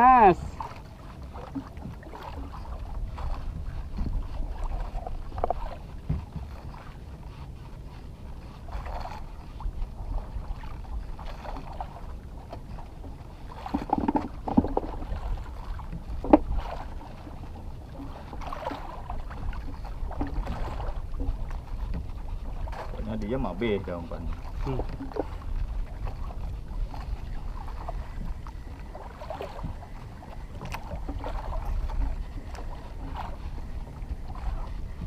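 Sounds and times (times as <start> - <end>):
boat engine rumble: 0.0 - 35.0.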